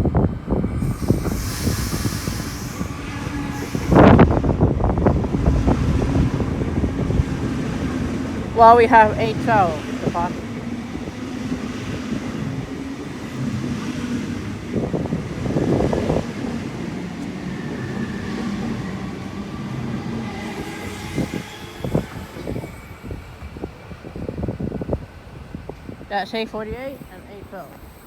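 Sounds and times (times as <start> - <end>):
electric train passing: 0.0 - 28.0.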